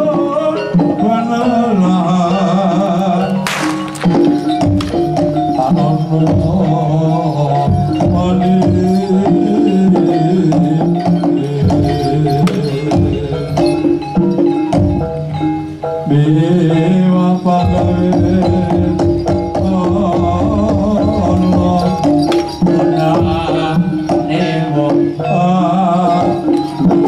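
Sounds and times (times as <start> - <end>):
loud music with percussion beat: 0.0 - 27.0.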